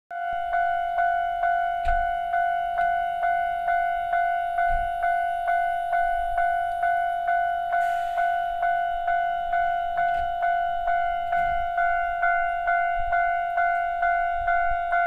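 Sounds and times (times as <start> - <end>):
level-crossing warning bell: 0.1 - 15.0.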